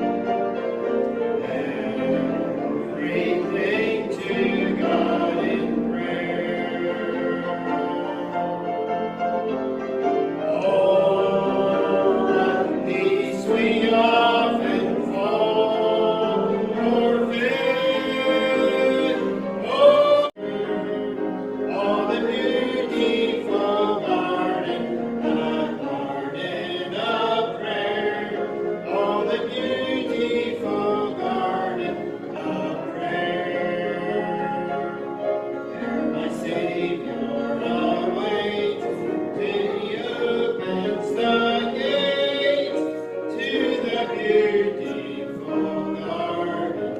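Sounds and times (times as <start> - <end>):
congregation singing: 0.0 - 46.9.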